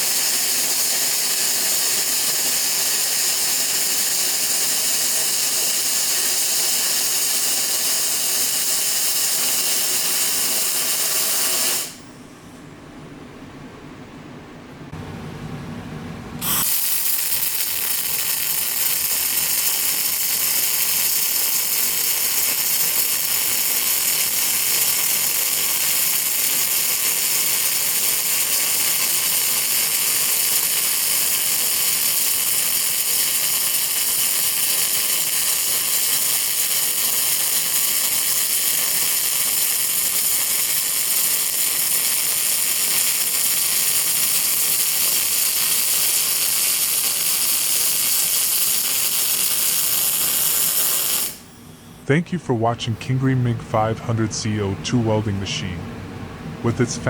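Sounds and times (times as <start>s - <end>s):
welding arc crackling: 0.0s - 12.0s, 16.4s - 51.6s.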